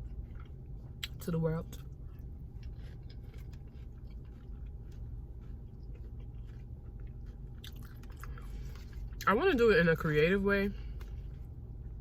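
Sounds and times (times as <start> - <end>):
quiet chewing: 0.0 - 9.3, 10.8 - 12.0
steady low hum: 0.0 - 12.0.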